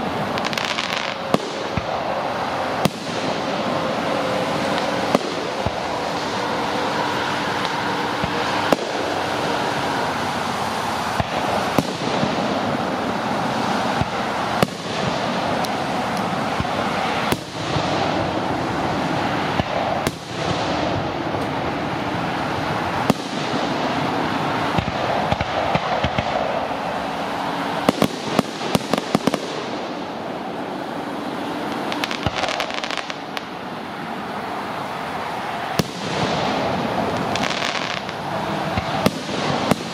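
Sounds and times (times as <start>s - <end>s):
fireworks bursting: 0.0s - 39.9s
fireworks crackling: 0.0s - 39.9s
steady hiss: 0.0s - 39.9s.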